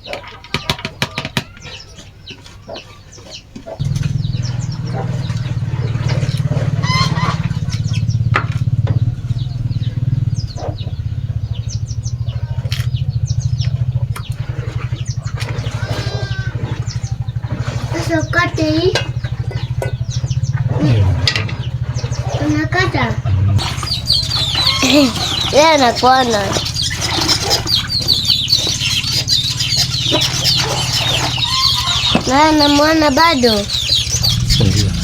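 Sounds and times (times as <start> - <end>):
chickens clucking: 0.0 - 35.0
pulsing engine running: 3.8 - 35.0.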